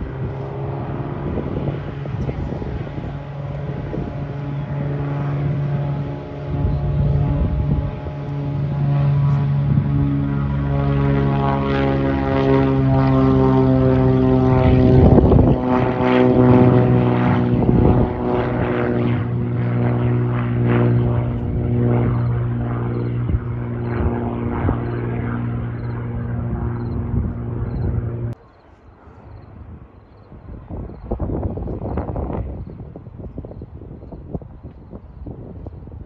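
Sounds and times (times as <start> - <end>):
propeller airplane engine drone: 0.0 - 36.0.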